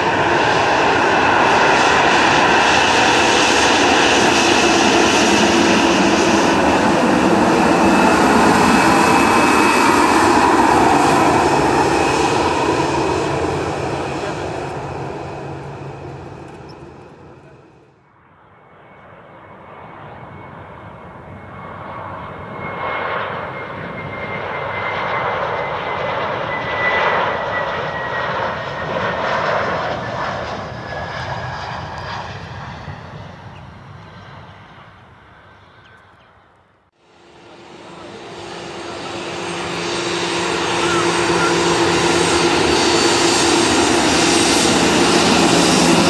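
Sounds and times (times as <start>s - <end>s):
aircraft engine rising: 0.0s - 46.0s
jet airliner passing: 0.0s - 46.0s.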